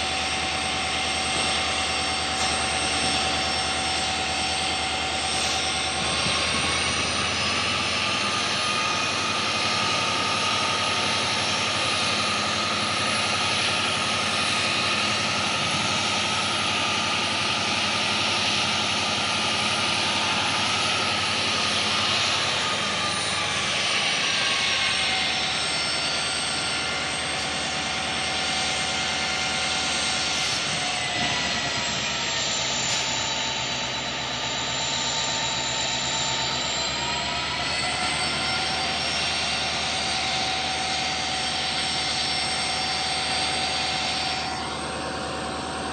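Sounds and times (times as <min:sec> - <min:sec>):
diesel locomotive humming: 0:00.0 - 0:45.9.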